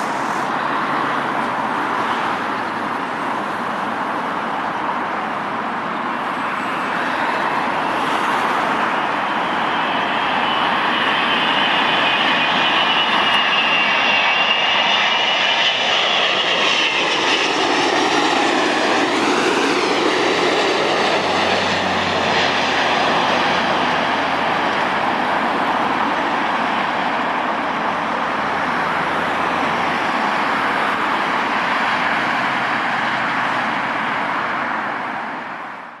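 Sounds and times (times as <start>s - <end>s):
jet airliner engines whining: 0.0s - 36.0s.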